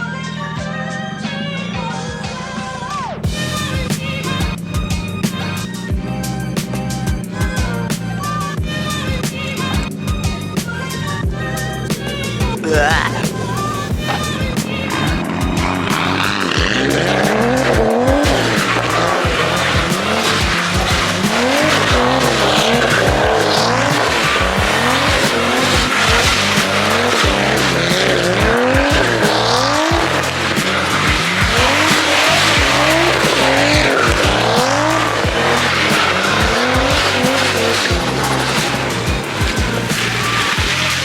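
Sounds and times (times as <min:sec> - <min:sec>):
car engine revving: 0:00.0 - 0:41.0
tyres skidding on wet road: 0:01.4 - 0:41.0
music with steady beat: 0:03.2 - 0:41.0.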